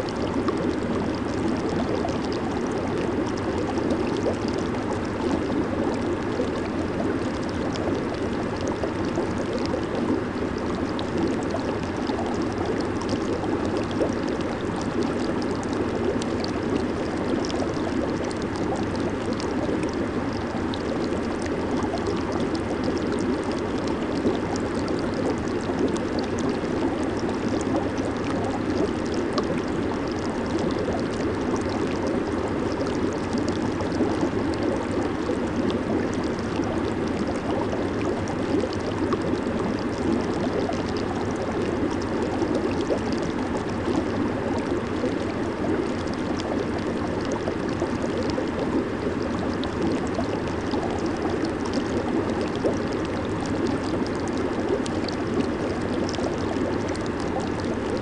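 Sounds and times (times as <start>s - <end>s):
jacuzzi water bubbling: 0.0s - 58.0s.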